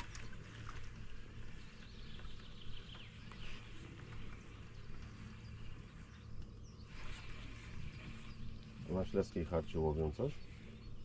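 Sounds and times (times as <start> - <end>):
steady low hum: 0.0 - 11.0
faint bird chirps: 1.1 - 11.0.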